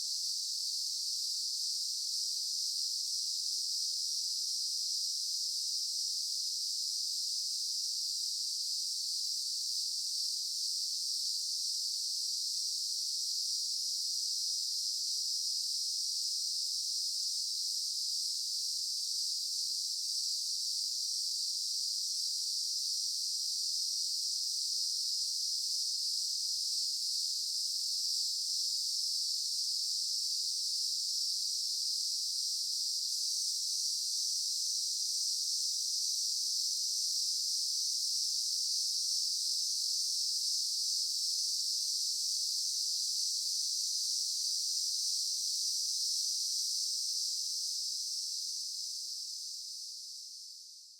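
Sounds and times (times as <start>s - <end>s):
insect chorus drone: 0.1s - 50.9s.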